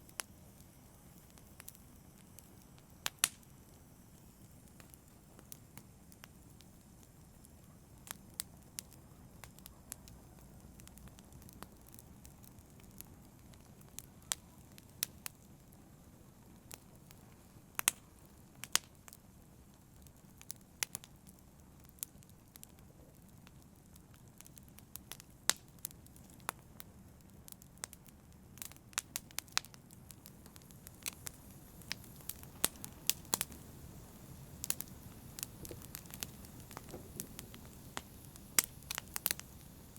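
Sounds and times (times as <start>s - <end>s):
hiss and rumble of flames: 0.0s - 39.9s
wood crackling and popping: 0.0s - 39.9s.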